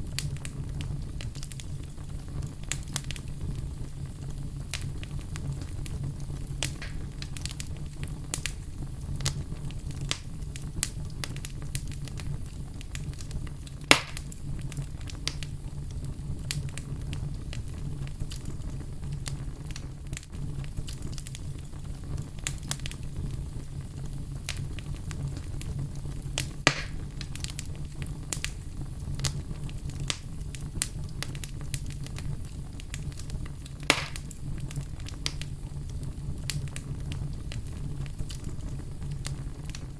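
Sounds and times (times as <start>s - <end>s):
fire crackling: 0.0s - 39.9s
low rumble of flames: 0.0s - 39.9s
sharp pops of fire: 0.0s - 39.9s.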